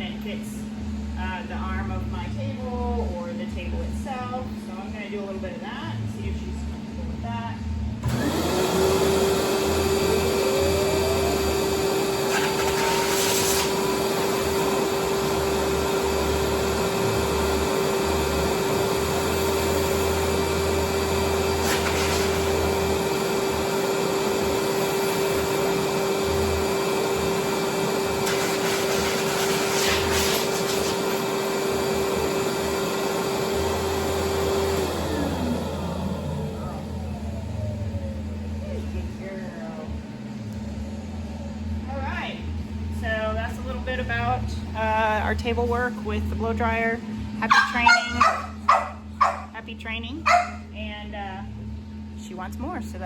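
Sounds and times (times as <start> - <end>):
blow dryer running: 0.0 - 53.0.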